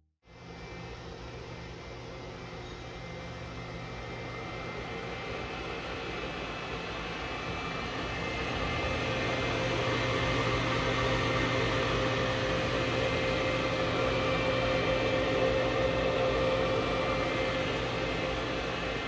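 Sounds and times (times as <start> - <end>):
lathe humming at idle: 0.8 - 19.0.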